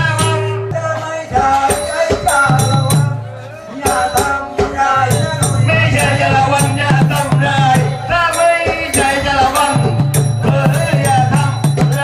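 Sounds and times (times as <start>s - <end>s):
low drum notes: 0.0s - 12.0s
sharp percussion strikes: 0.0s - 12.0s.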